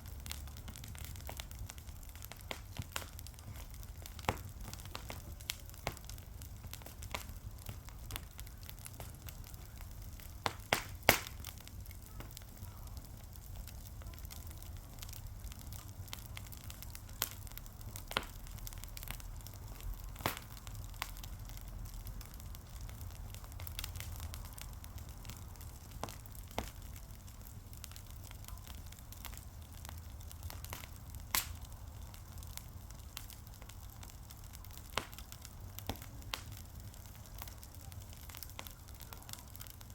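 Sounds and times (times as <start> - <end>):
sharp pops and snaps: 0.0 - 12.5, 13.4 - 27.0, 27.8 - 33.8, 34.4 - 39.9
wood fire crackling: 0.0 - 39.9.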